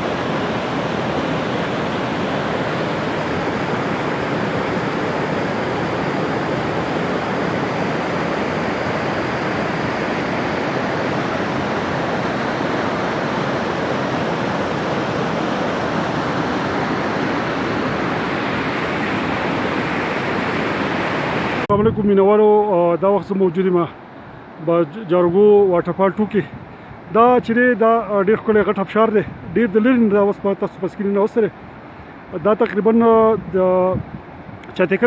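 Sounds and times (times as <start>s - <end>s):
large waterfall roaring: 0.0s - 35.0s.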